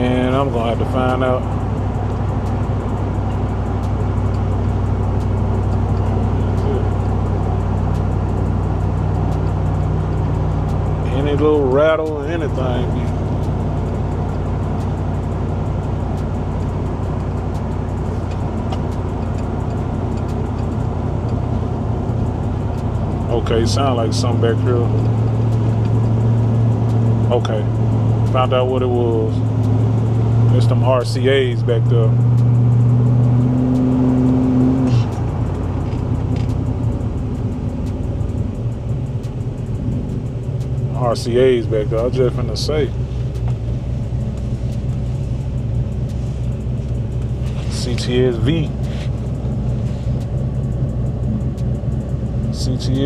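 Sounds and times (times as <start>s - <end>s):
engine and road drone: 0.0s - 53.0s
faint rattle ticks: 0.0s - 53.0s.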